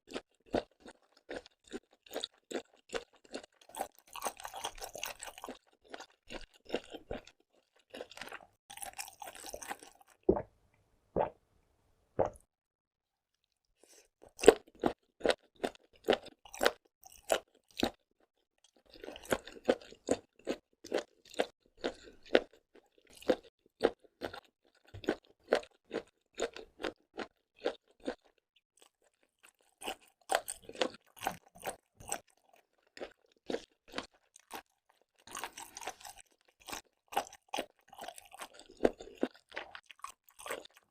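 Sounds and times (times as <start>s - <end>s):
person chewing with crunching: 0.1s - 10.4s, 13.4s - 40.9s.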